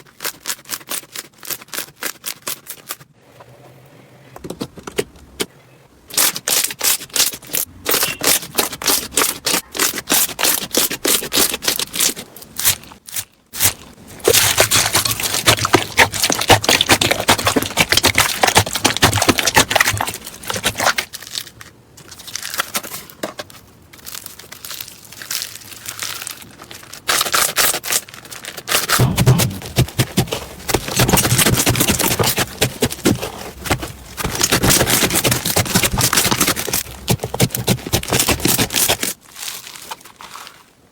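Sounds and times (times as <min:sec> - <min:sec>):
crunchy slime crackling: 0:06.1 - 0:23.1, 0:23.9 - 0:40.8.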